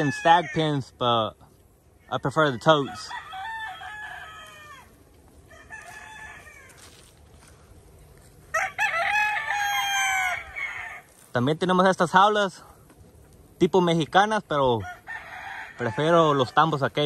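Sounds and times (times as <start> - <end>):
roosters crowing: 0.0 - 12.5, 14.1 - 17.0.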